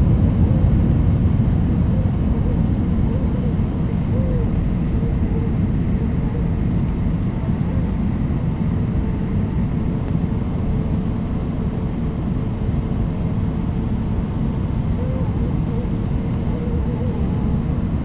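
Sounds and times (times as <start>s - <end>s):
engine and airflow rumble: 0.0s - 18.0s
faint steady hum: 0.0s - 18.0s.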